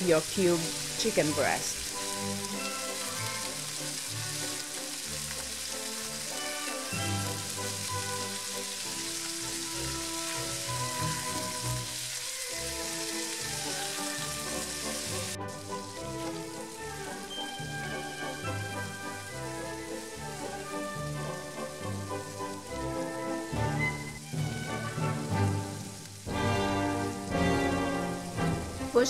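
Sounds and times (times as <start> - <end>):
background music: 0.0 - 29.0
chicken sizzling in frying pan: 0.0 - 29.0.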